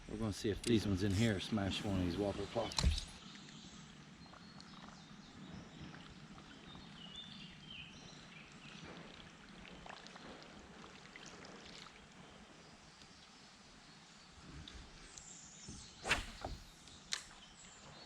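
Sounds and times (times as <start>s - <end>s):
creek water lapping: 0.8s - 15.2s, 15.8s - 18.0s.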